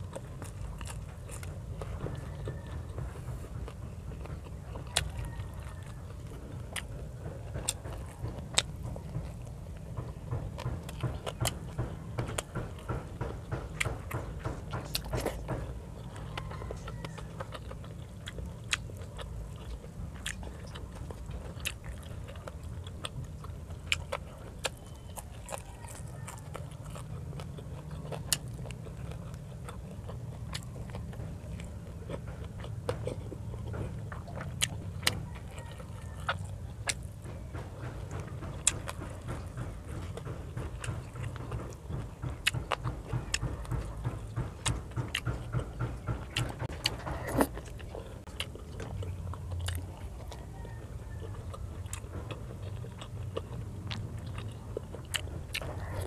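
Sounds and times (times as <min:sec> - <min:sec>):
chewing food: 0:00.0 - 0:56.0
steady low hum: 0:00.0 - 0:56.0.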